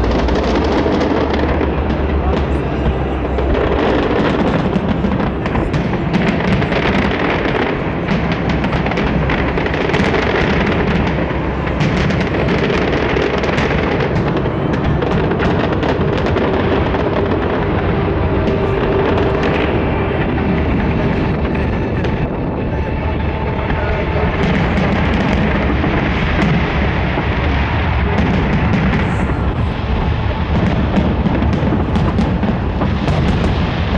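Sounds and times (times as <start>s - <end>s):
continuous rumble: 0.0s - 33.9s
fireworks bangs and crackles: 0.0s - 33.9s
music playing: 0.0s - 33.9s.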